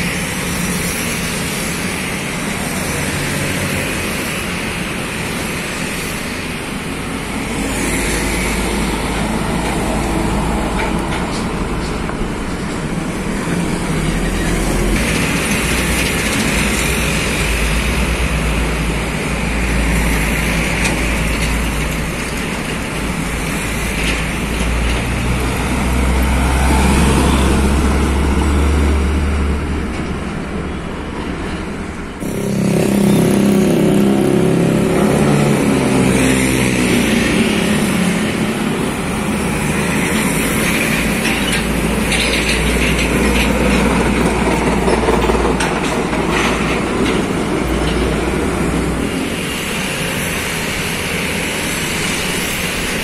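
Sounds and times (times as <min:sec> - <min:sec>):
heavy trucks driving past: 0:00.0 - 0:53.0.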